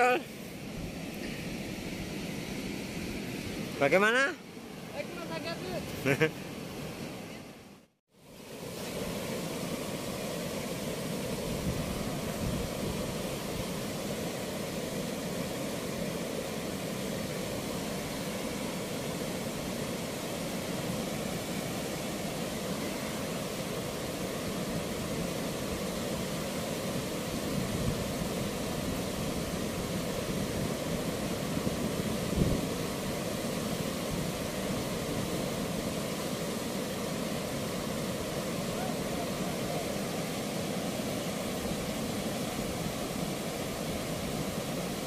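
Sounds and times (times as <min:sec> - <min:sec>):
water rushing through sluice gates: 0:08.4 - 0:45.0.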